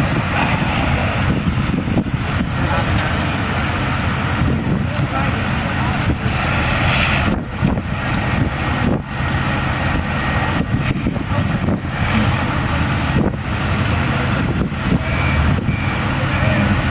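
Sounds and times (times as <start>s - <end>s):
wind on microphone: 0.0s - 15.9s
vehicle engines idling: 0.0s - 16.9s.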